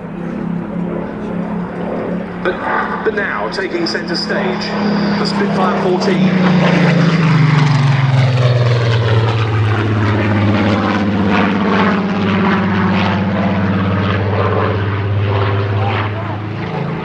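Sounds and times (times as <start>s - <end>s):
aircraft engine flying overhead: 0.0s - 17.0s.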